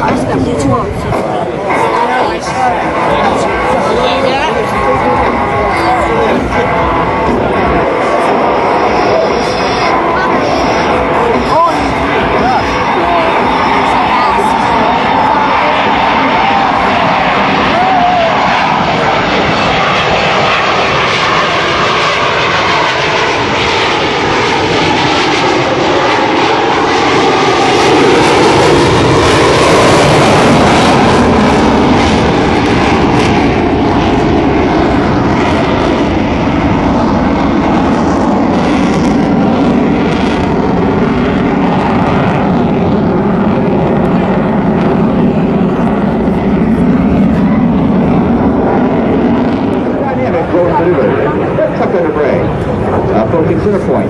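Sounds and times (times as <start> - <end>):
jets passing: 0.0 - 54.0.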